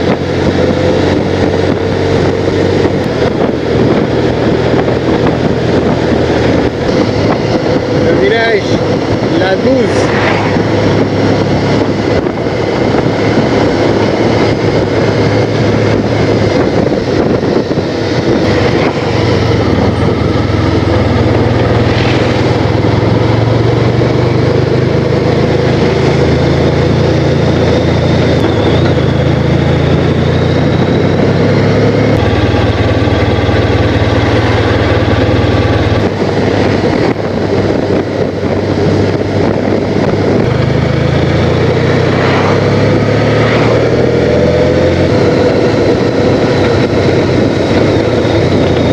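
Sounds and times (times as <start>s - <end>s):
motorcycle engine running: 0.0s - 48.9s
wind rush: 0.0s - 48.9s.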